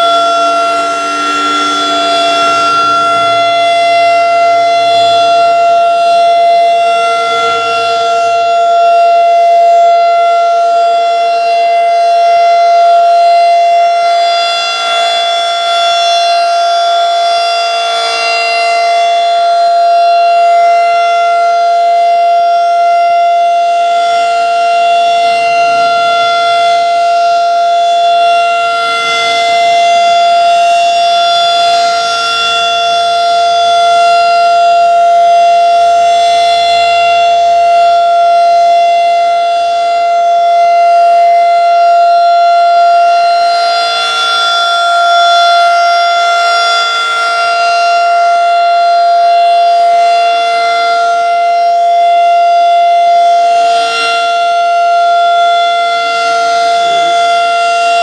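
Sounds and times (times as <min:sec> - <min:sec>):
rotating siren steady tone: 0:00.0 - 0:58.0.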